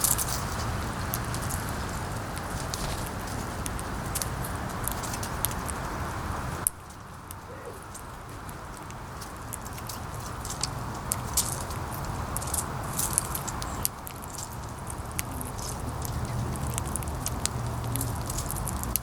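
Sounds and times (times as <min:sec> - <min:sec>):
animals cracking seeds: 0:00.0 - 0:19.0
wind buffeting microphone: 0:00.0 - 0:19.0.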